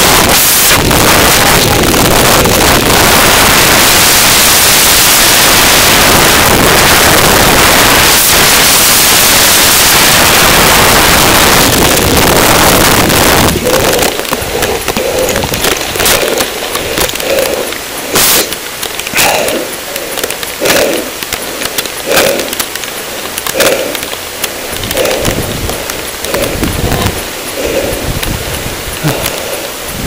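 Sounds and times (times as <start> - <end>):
wind buffeting microphone: 0.0 - 19.1, 22.8 - 30.0.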